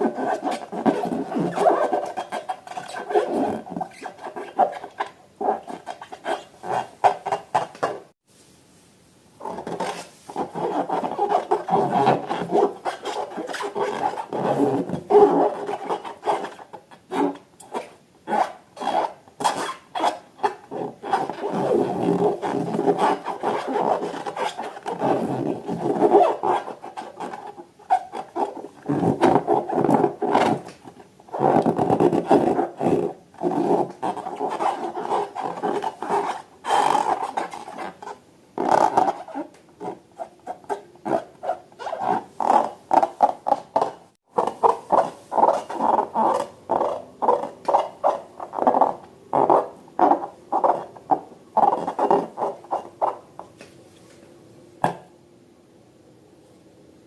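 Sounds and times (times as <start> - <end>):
rubber balloons squeaking: 0.0 - 8.1, 9.4 - 53.3.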